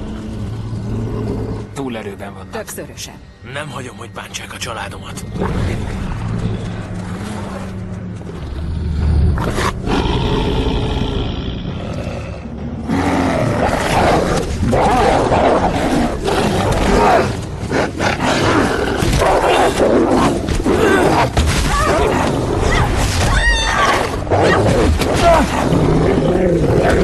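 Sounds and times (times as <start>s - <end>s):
wolves growling and snarling: 5.3s - 27.0s.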